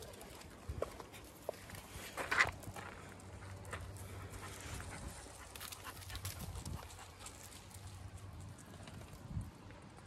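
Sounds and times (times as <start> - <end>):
paws scrabbling on stone and grass: 0.0 - 10.0.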